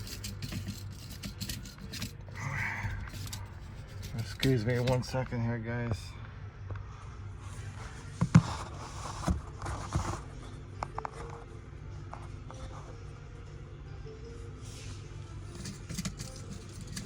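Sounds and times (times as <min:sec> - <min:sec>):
rustling and scraping: 0:00.0 - 0:05.3, 0:06.8 - 0:13.0, 0:14.7 - 0:17.0
faint steady hum: 0:00.0 - 0:17.0.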